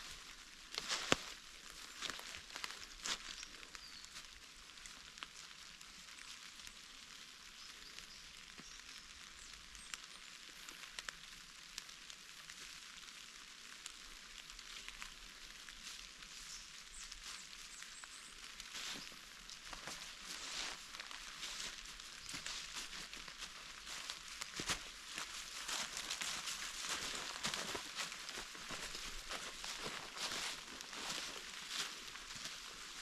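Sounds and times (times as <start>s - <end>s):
light rain on leaves: 0.0s - 33.0s.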